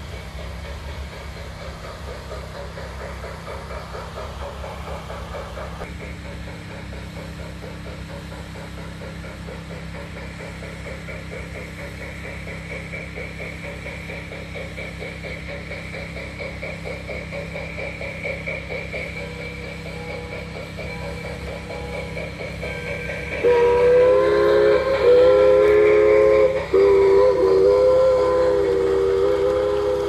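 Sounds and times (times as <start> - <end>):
model train hum on track: 0.0 - 30.0.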